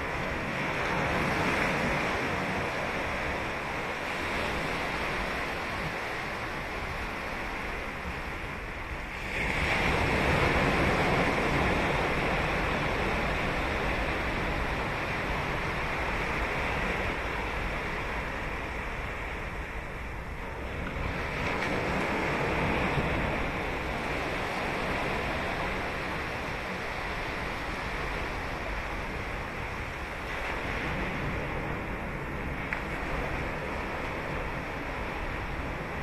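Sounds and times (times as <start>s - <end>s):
ocean surf breaking on sand: 0.0s - 36.0s.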